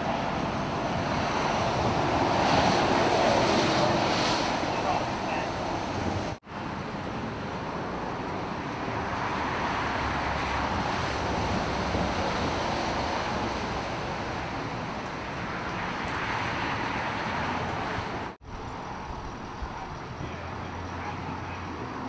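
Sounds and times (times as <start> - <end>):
traffic rushing: 0.0 - 22.0.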